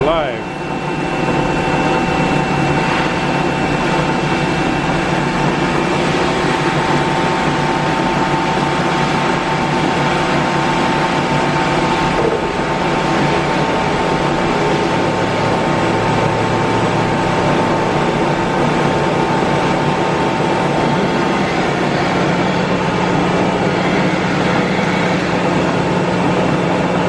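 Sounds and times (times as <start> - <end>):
grinder machine hum and whine: 0.0 - 27.0.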